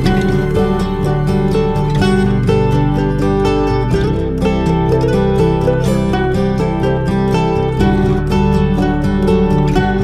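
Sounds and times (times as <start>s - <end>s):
plucked-string instrumental music: 0.0s - 10.0s.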